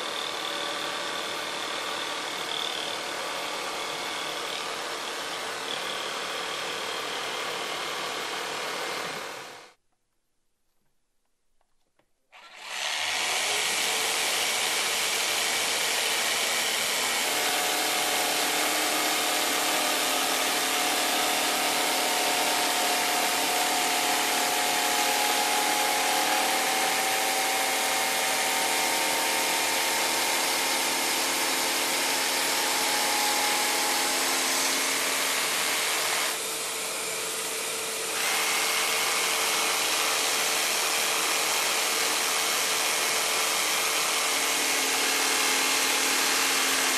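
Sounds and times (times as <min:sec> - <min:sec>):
jigsaw cutting plywood: 0:00.0 - 0:09.8, 0:12.3 - 0:46.9.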